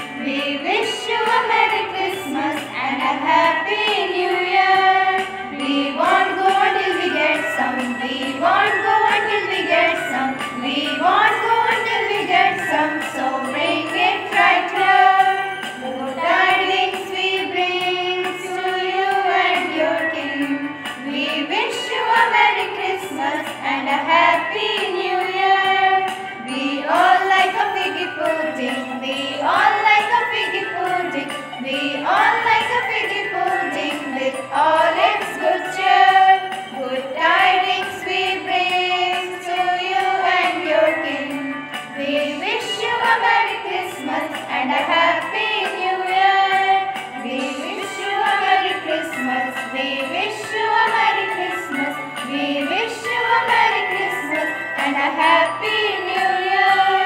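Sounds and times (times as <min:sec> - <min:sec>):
christmas song with vocals: 0:00.0 - 0:57.0.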